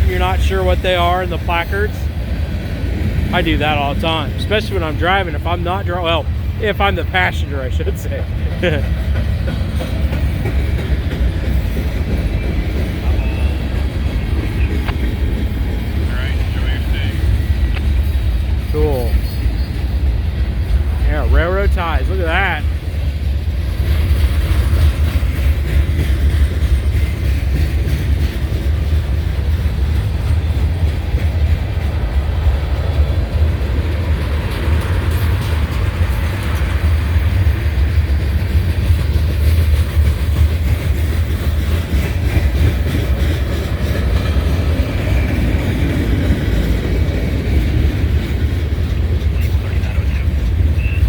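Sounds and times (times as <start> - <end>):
freight train wheels clattering on rails: 0.0 - 51.0.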